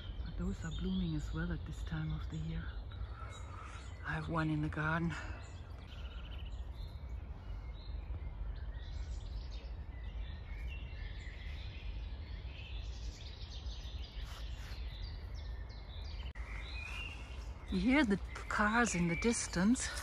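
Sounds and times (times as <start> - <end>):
birds singing and chirping: 0.0 - 20.0
distant city traffic rumble: 0.0 - 20.0.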